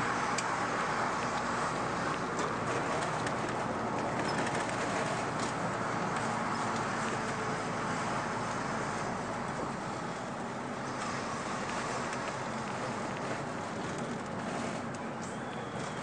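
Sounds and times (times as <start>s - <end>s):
bus diesel engine running: 0.0s - 16.0s
road and tyre noise: 0.0s - 16.0s.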